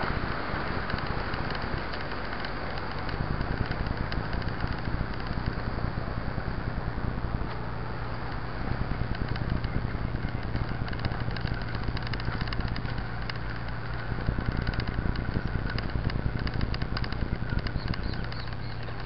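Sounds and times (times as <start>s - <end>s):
bike clicking and rattling: 0.0s - 19.0s
low wind rumble on microphone: 0.0s - 19.0s.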